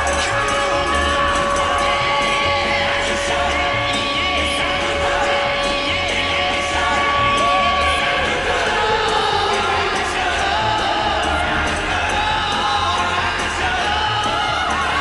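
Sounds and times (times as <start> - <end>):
goal horn: 0.0 - 12.2
crowd cheering and yelling: 0.0 - 15.0
song with heavy beat: 0.0 - 15.0.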